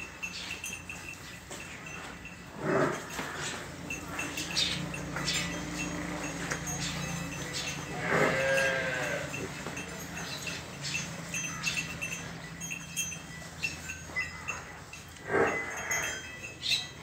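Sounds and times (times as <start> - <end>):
small bells clinking: 0.0 - 17.0
farm animal cry: 2.0 - 17.0.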